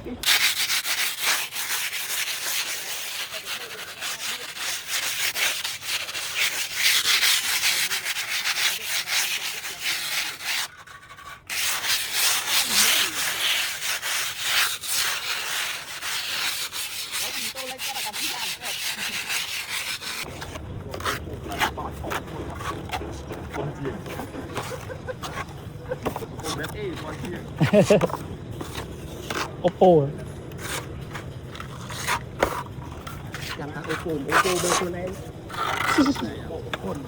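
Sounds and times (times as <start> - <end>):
scraping and rubbing strokes: 0.2 - 37.0.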